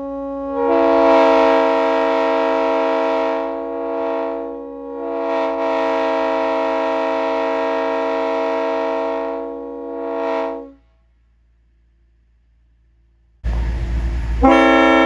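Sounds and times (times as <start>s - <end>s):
train air horn chord: 0.0s - 11.1s, 13.5s - 15.0s.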